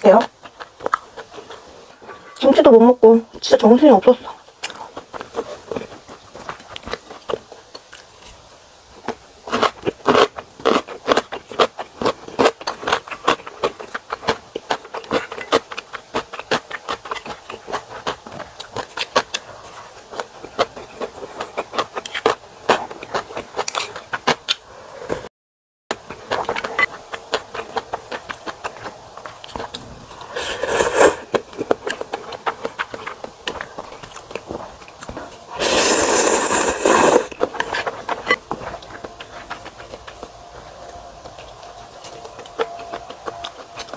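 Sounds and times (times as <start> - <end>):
chewing with mouth clicks: 0.0 - 2.5, 4.1 - 8.4, 9.0 - 24.6, 25.9 - 43.9.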